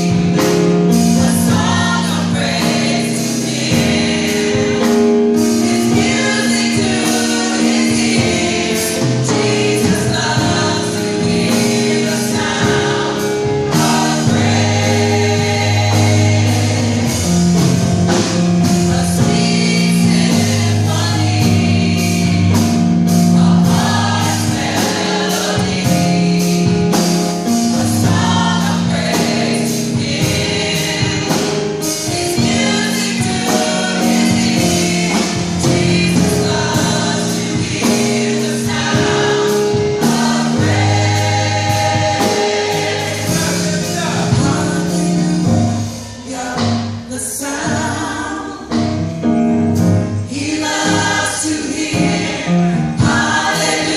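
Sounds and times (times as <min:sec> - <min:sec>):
band playing beat and bass: 0:00.0 - 0:48.0, 0:48.7 - 0:53.9
gospel choir singing: 0:00.0 - 0:53.9.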